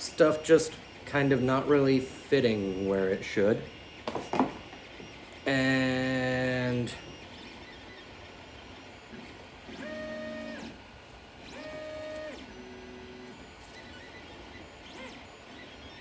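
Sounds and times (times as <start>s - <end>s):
printer stepper motors whining: 0.0s - 16.0s.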